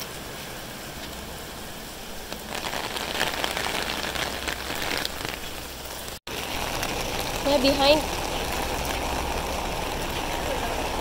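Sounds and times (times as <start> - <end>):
rain falling on wet street: 0.0 - 11.0.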